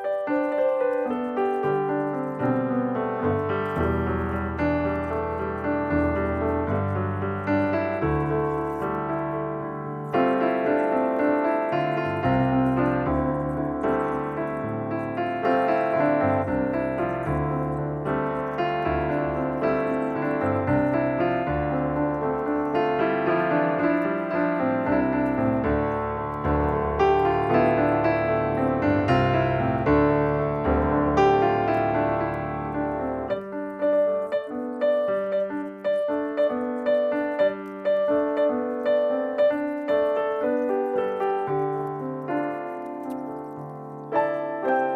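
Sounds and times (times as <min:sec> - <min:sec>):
piano music: 0:00.0 - 0:44.9.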